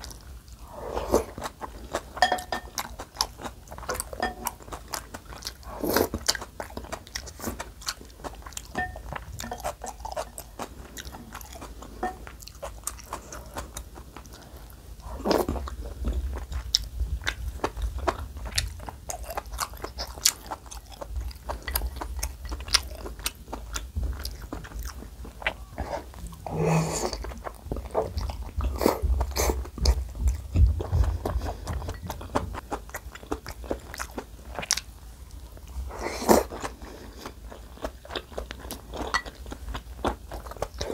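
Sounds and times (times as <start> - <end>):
chewing soft food: 0.0 - 40.9.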